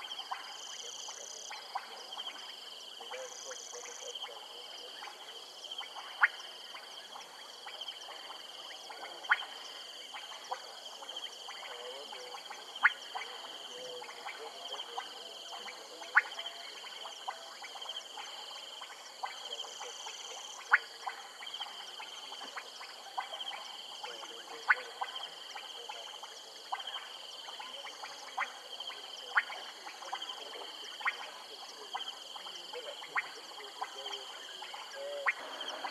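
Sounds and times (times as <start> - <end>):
frogs clicking: 0.0 - 35.9.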